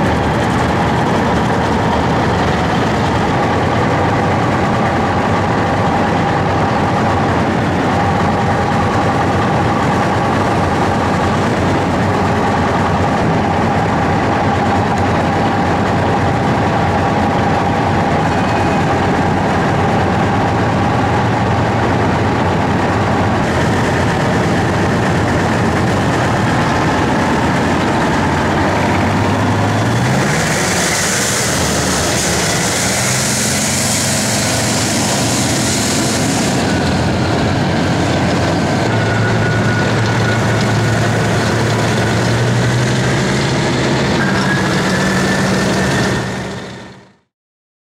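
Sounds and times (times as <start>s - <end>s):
tracked vehicle rumbling past: 0.0s - 47.2s.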